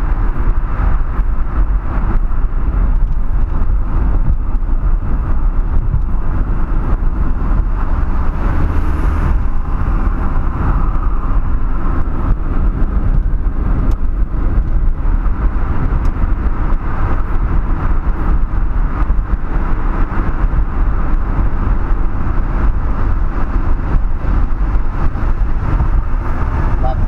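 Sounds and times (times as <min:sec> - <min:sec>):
car engine and tyre road noise: 0:00.0 - 0:27.0.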